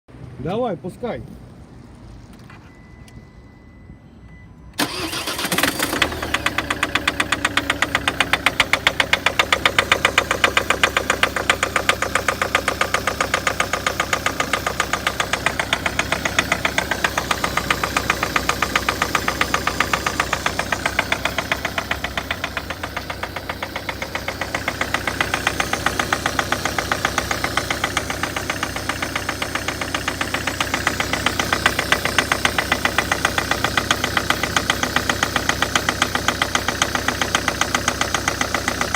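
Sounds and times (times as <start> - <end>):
diesel engine knocking: 4.8 - 38.9.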